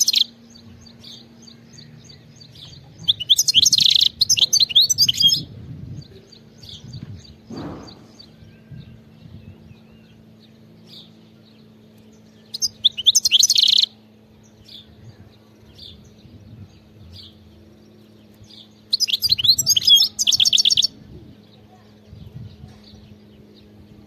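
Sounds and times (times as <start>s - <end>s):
goldfinch twittering song: 0.0s - 24.0s.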